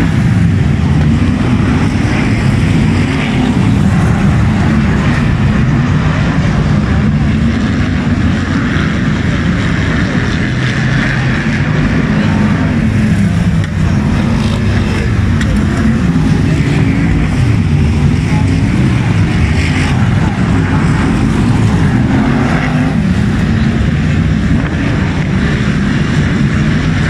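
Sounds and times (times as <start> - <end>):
racing car engines: 0.0 - 27.0.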